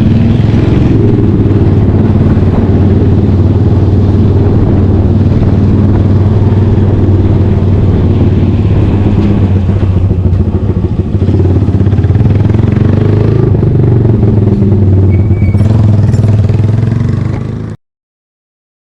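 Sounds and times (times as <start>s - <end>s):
motorcycle engine running loud: 0.0s - 17.8s.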